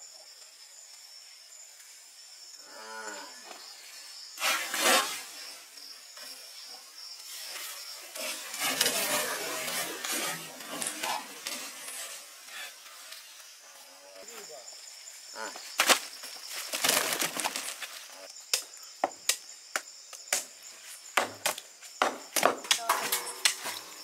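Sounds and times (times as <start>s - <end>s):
night insects chirring: 0.0s - 24.0s.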